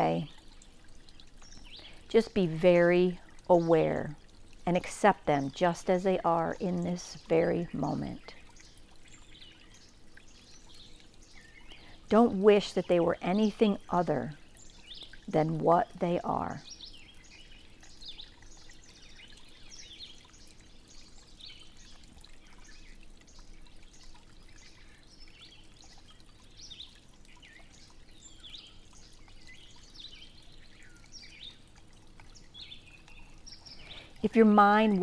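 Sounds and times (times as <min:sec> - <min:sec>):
small birds chirping and singing: 0:05.4 - 0:35.0.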